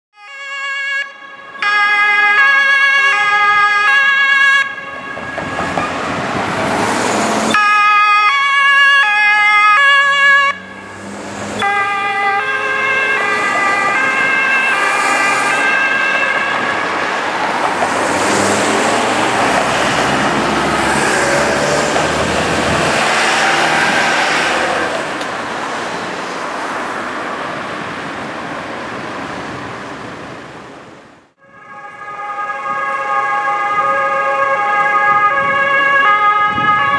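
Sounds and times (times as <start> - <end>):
two-tone police sirens: 0.2 - 26.7, 31.4 - 36.9
vehicle engines and traffic: 0.2 - 36.9.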